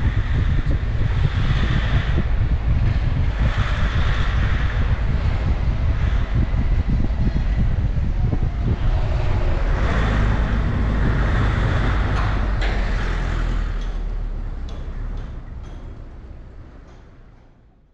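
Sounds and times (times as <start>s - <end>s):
heavy traffic rumble: 0.0s - 17.9s.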